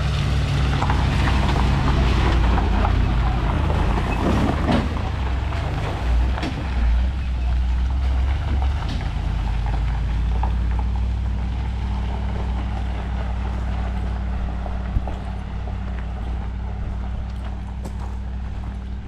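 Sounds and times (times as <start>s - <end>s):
truck engines rumbling: 0.0s - 19.0s.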